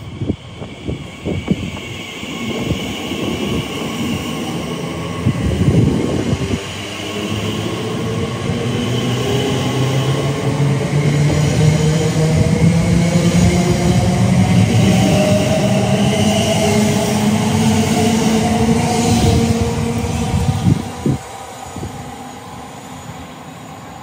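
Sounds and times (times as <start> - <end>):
wind buffeting microphone: 0.0 - 22.2
train approaching: 0.0 - 24.0.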